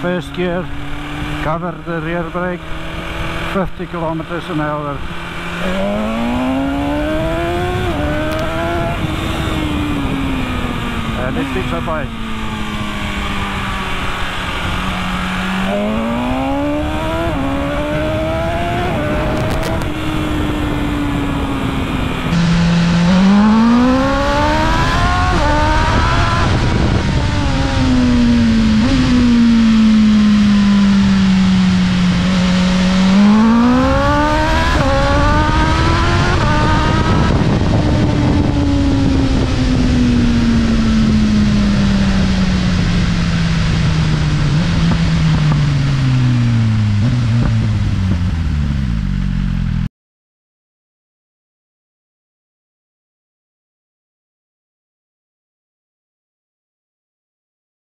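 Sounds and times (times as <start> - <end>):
wind rushing over microphone: 0.0 - 48.7
motorcycle engine revving: 0.0 - 49.9.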